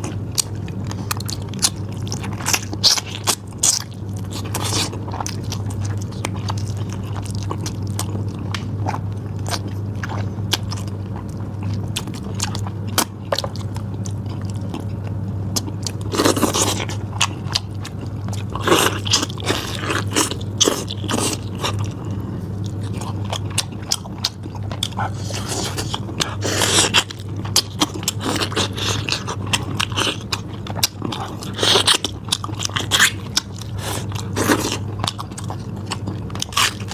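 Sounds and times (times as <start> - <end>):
chewing and biting meat: 0.0 - 36.9
steady low hum: 0.0 - 36.9.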